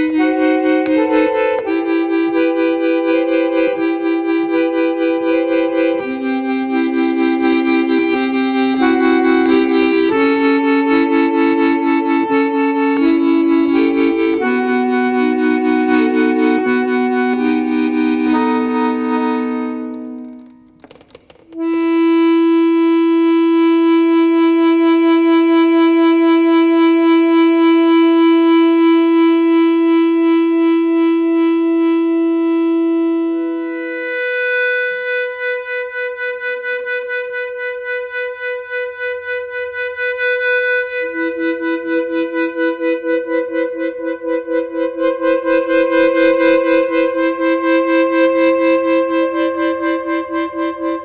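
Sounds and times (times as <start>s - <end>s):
instrumental music of held notes: 0.0s - 51.0s.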